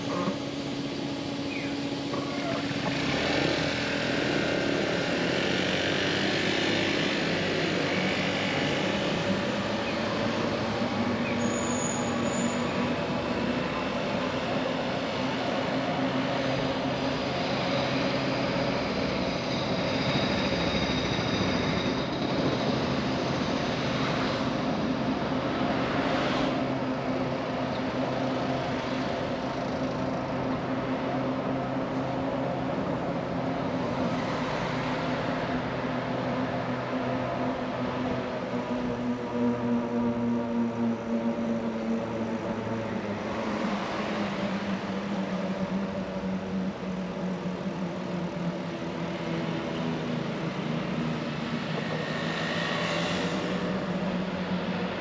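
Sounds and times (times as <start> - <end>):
car and scooter engines: 0.0 - 55.0.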